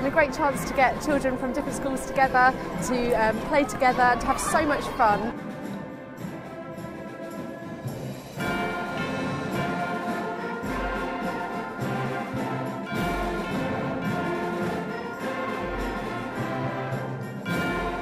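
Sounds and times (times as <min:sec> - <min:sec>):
orchestral music: 0:00.0 - 0:18.0.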